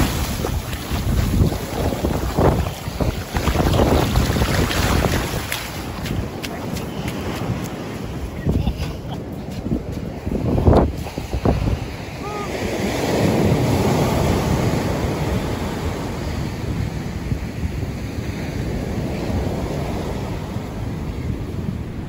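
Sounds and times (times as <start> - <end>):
ocean surf breaking on sand: 0.0 - 22.0
wind buffeting microphone: 0.0 - 22.0.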